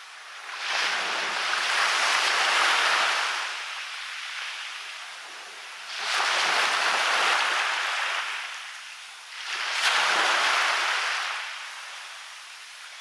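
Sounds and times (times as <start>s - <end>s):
waves washing onto a beach: 0.0s - 13.0s.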